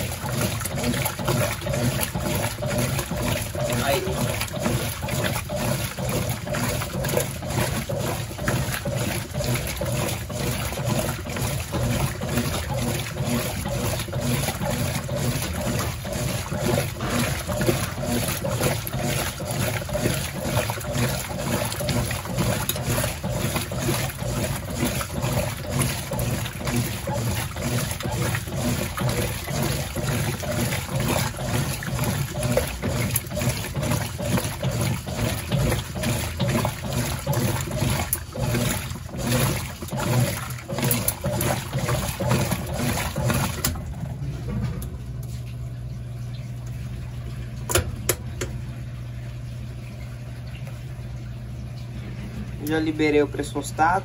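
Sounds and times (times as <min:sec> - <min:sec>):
washing machine churning water: 0:00.0 - 0:54.0.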